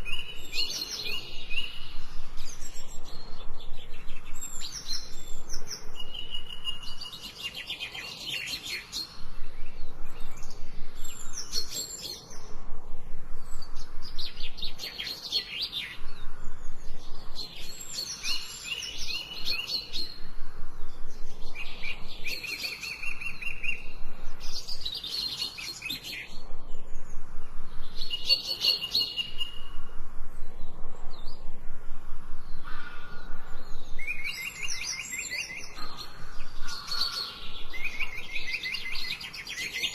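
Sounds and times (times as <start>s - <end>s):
songbird chirping with trill: 0.0s - 39.9s.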